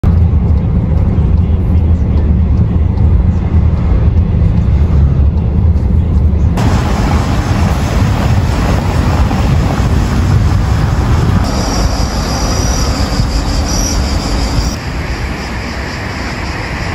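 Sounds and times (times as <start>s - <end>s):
vehicle interior rumble: 0.0s - 14.9s
broad rushing noise: 0.0s - 16.9s.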